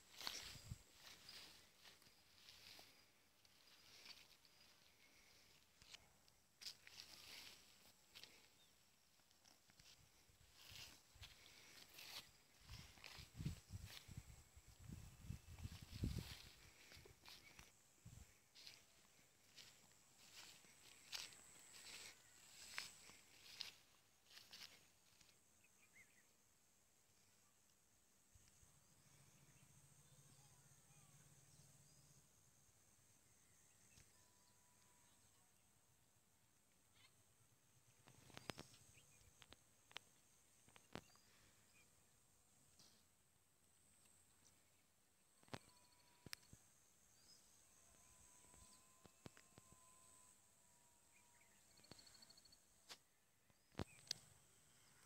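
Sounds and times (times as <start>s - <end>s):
rural outdoor ambience: 0.0s - 55.0s.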